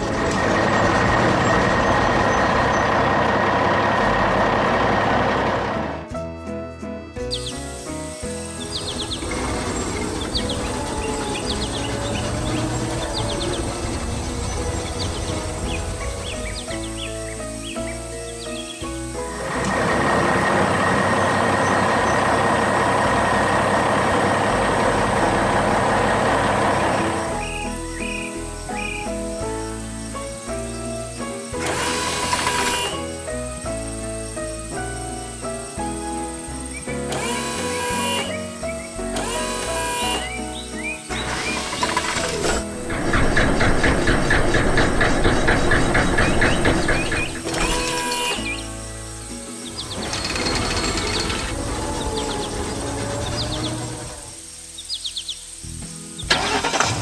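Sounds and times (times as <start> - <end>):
heavy truck engine running: 0.0 - 6.1, 7.5 - 54.4, 56.3 - 57.0
light cartoon music: 0.0 - 57.0.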